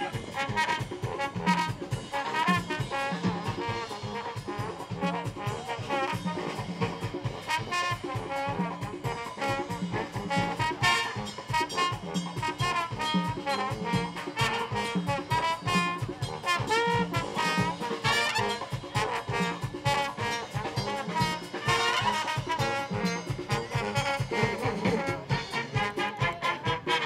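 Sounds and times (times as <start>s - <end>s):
brass band playing jazz: 0.0s - 27.0s.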